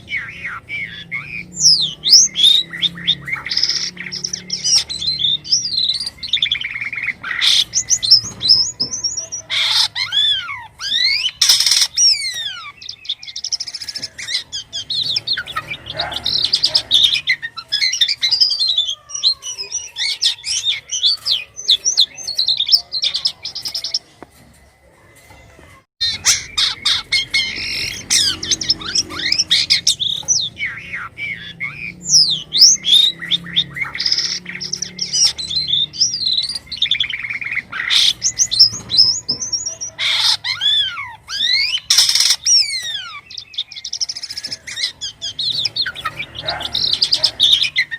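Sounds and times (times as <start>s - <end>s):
starling singing: 0.0s - 47.9s.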